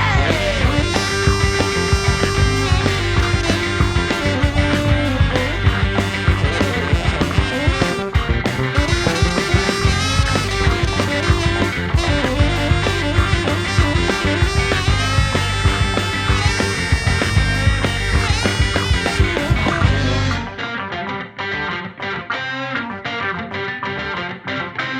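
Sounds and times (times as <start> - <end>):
saxophone: 0.0 - 20.6
bass: 0.0 - 20.7
keyboards: 0.0 - 21.4
drums: 0.0 - 22.0
electric guitar: 0.0 - 24.9.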